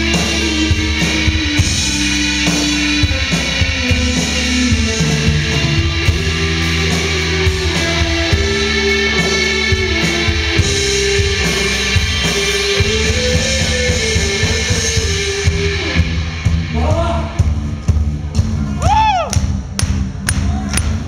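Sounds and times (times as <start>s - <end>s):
electric guitar lead line: 0.0s - 19.2s
drum kit with cymbals: 0.0s - 21.0s.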